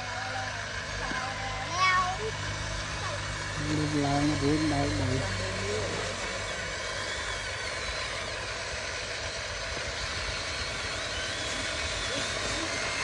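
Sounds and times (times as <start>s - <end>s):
continuous hum: 0.0s - 13.0s
electric motors whining: 0.0s - 13.0s.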